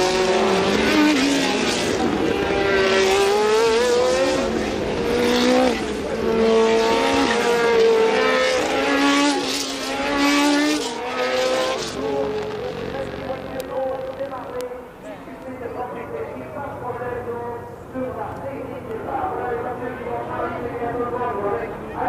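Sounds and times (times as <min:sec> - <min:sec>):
racing car engines accelerating: 0:00.0 - 0:22.0.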